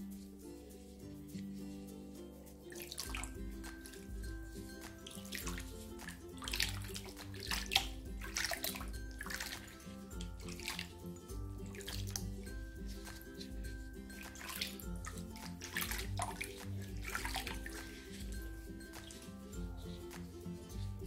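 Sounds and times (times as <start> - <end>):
background music: 0.0 - 21.0
water splashing in a basin: 2.7 - 21.0.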